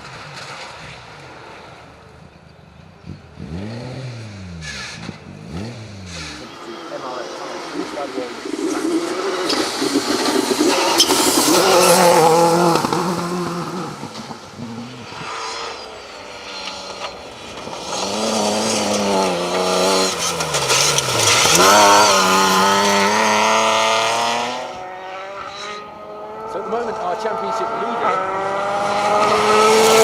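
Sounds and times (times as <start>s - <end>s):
rally car engine accelerating: 3.0s - 30.0s.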